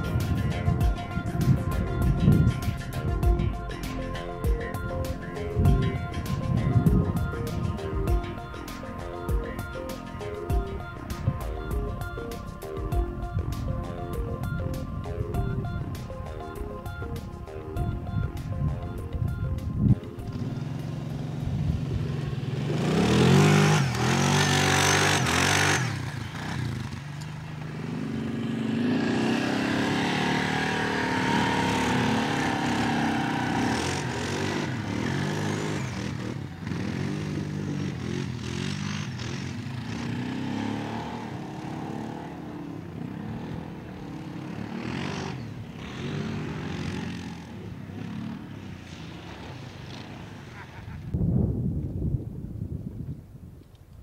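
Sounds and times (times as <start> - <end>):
atv engines revving: 0.0 - 15.0, 19.6 - 51.2.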